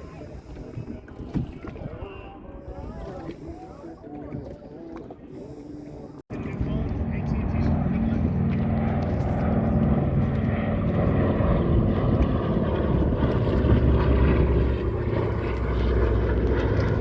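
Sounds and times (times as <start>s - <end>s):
propeller airplane engines droning: 0.0s - 17.0s.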